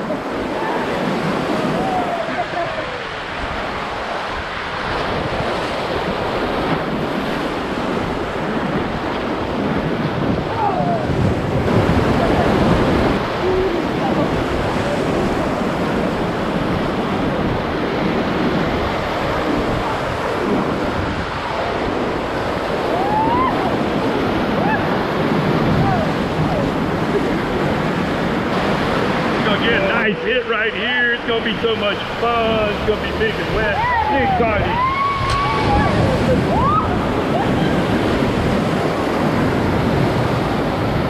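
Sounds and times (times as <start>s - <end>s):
wind on microphone: 0.0s - 30.2s, 31.4s - 41.0s
whitewater rapids roaring: 0.0s - 41.0s.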